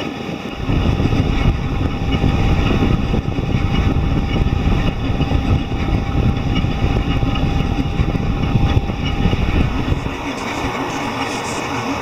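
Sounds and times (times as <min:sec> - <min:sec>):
printer motor and fan noise: 0:00.0 - 0:12.0
faint steady whine: 0:00.3 - 0:12.0
low rumble: 0:00.5 - 0:11.0.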